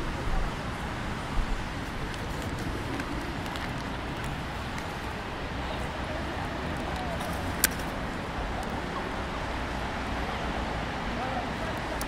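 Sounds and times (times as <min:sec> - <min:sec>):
distant traffic: 0:00.0 - 0:12.0
street noise: 0:00.0 - 0:12.0.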